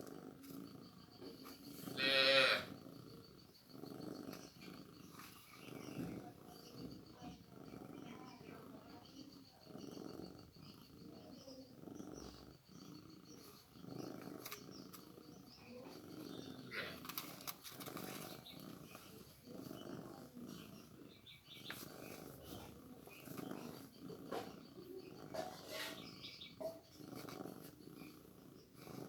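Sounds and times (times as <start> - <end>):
cat purring: 0.0 - 29.0.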